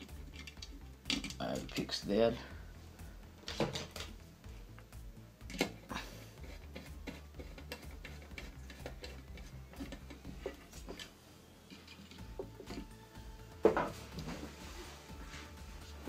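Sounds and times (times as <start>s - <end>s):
low background music: 0.0s - 16.0s.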